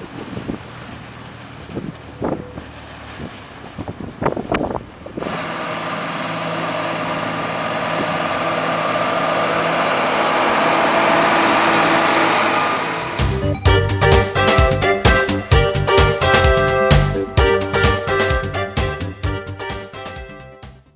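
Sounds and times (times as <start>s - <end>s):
vehicle engine running: 0.0s - 20.5s.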